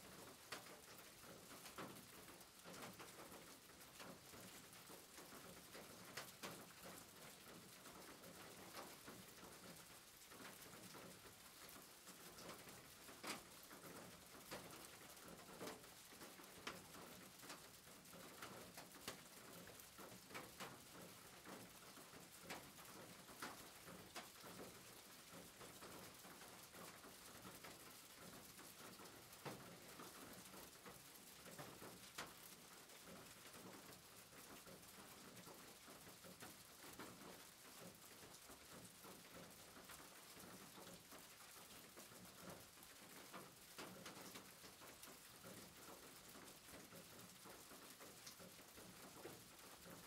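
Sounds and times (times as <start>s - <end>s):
faint rain on a roof: 0.0s - 50.0s
raindrops tapping: 0.1s - 50.0s.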